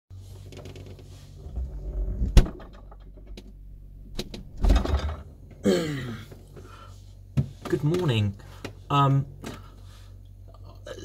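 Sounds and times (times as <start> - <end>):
steady low hum: 0.2 - 11.0.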